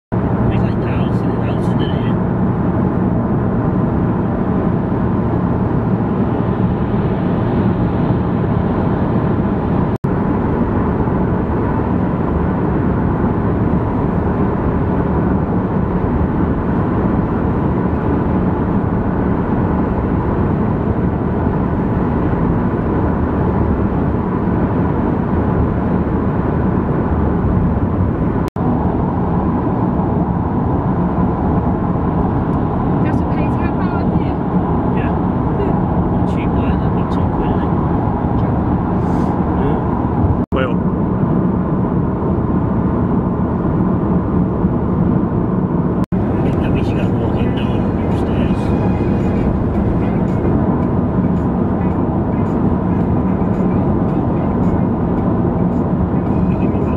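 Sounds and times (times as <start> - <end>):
car engine and road noise: 0.1 - 56.9.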